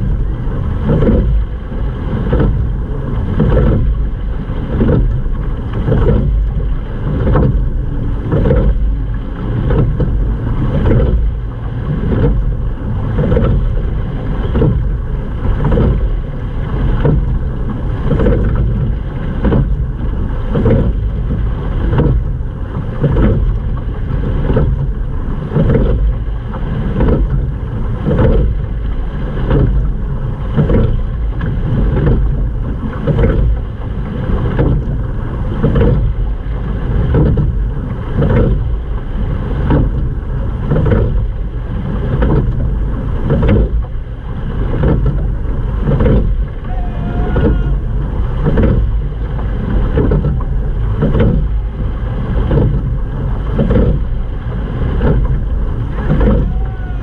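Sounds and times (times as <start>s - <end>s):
oar strokes pulsing: 0.0s - 57.0s
water rushing along hull: 0.0s - 57.0s
wind on microphone: 0.0s - 57.0s.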